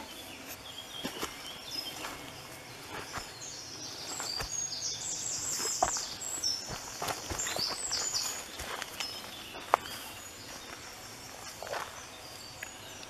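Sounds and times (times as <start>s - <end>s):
songbird singing: 0.0s - 13.0s
footsteps on forest floor: 0.4s - 13.0s.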